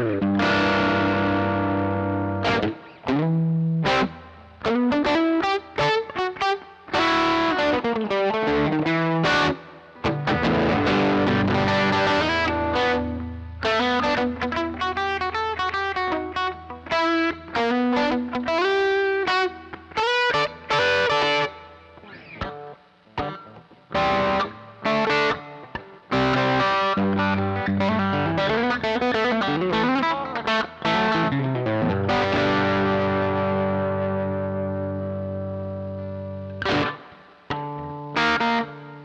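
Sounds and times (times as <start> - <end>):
overdriven electric guitar: 0.0 - 39.0.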